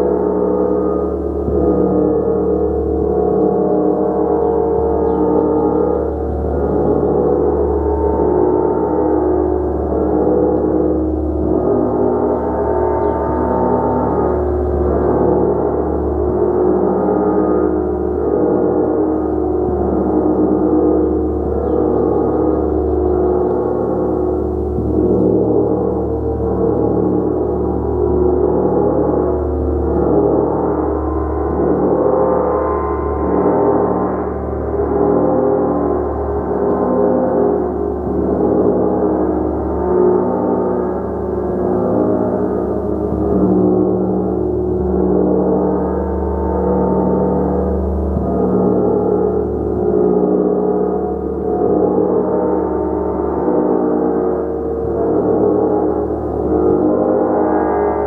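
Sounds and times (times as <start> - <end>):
gong ringing: 0.0 - 58.0.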